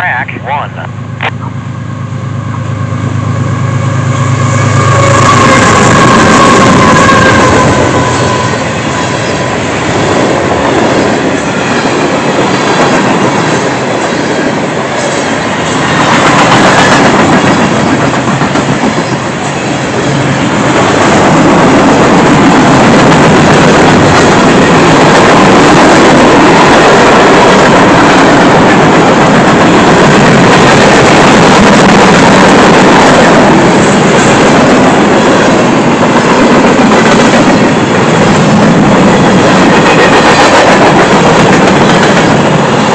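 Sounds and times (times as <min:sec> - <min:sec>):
freight train wheels rumbling: 0:00.9 - 0:42.9.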